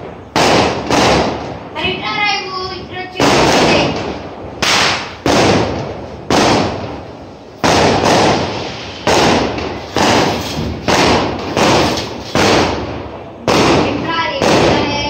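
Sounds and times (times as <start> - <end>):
firecrackers banging with echo: 0.0 - 15.0.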